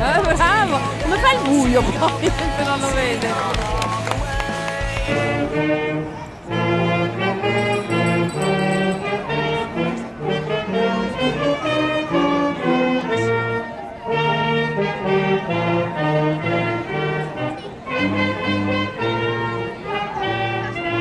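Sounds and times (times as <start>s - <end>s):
brass-led music: 0.0s - 21.0s.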